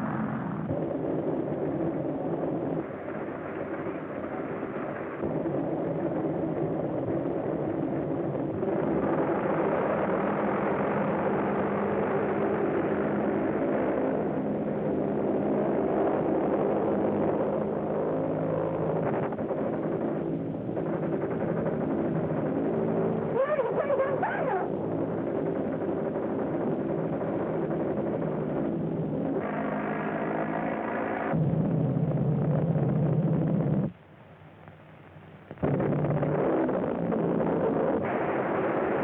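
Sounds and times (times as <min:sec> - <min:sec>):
light aircraft engine running: 0:00.0 - 0:39.0.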